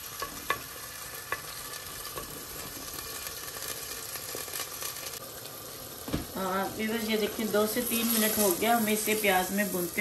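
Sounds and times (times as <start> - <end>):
meat and onions sizzling in a pan: 0.0 - 10.0.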